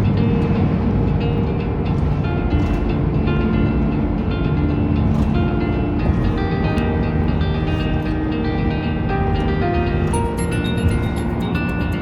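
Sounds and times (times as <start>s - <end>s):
background music with sustained notes: 0.0s - 12.0s
vehicle driving rumble: 0.0s - 12.0s.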